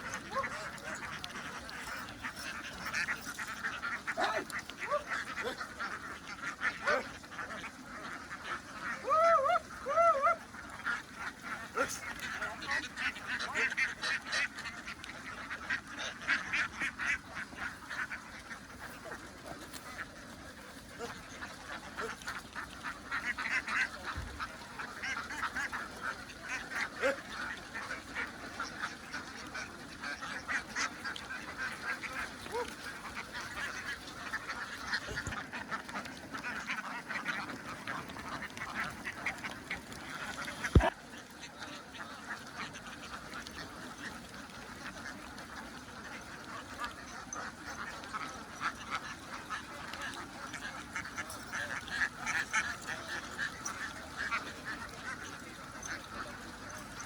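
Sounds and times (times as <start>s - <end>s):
flock of ducks quacking: 0.0s - 57.0s.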